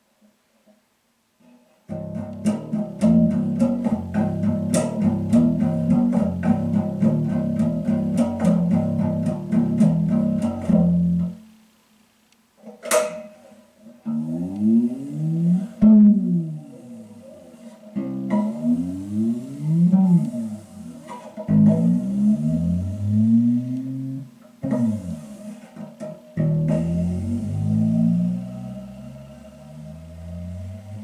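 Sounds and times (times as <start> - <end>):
fretless electric bass notes: 1.9 - 11.4, 14.0 - 25.4, 26.4 - 31.0.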